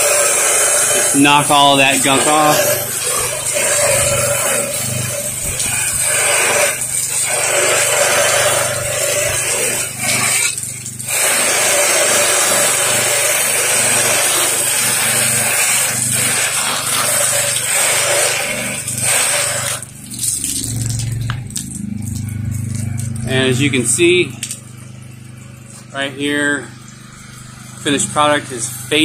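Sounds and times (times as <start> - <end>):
pressure washer hum: 0.0 - 29.0
pressure washer spraying water: 0.0 - 29.0.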